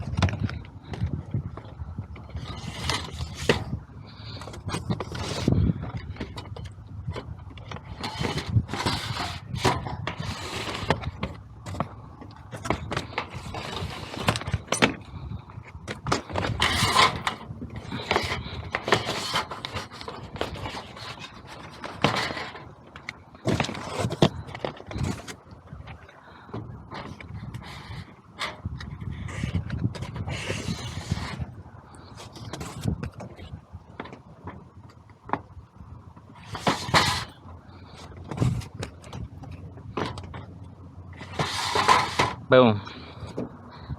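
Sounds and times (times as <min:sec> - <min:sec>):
scraping and rustling: 0:00.0 - 0:35.6, 0:36.2 - 0:43.9.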